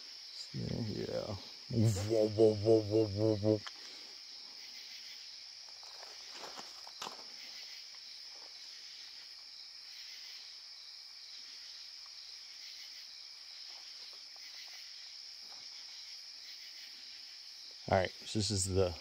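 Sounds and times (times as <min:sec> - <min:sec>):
night insects droning: 0:00.0 - 0:19.0.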